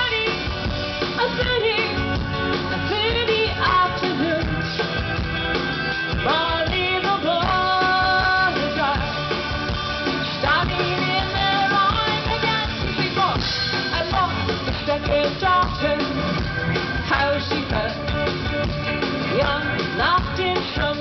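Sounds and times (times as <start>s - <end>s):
gliding lead melody: 0.0s - 21.0s
live rock band playing: 0.0s - 21.0s.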